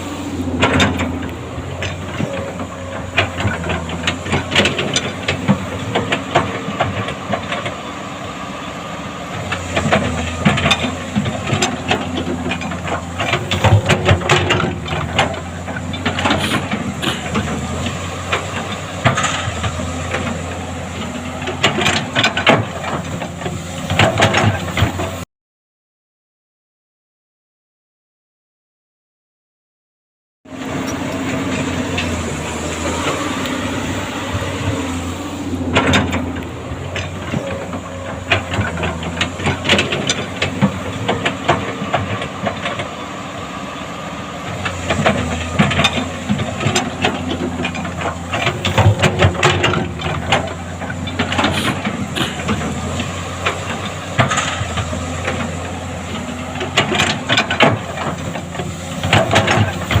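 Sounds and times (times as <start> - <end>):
excavator diesel engine running: 0.0 - 25.3, 30.5 - 60.0
machine clanks and knocks: 0.4 - 7.8, 9.4 - 25.2, 30.6 - 43.0, 44.4 - 60.0.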